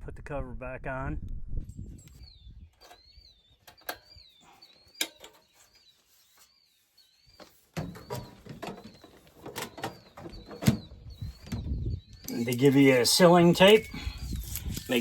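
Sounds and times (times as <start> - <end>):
small bird chirping: 1.8 - 15.0.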